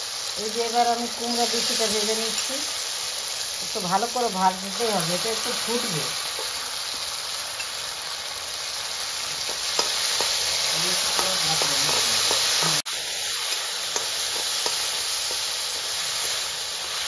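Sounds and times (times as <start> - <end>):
seeds sizzling in oil: 0.0 - 17.0.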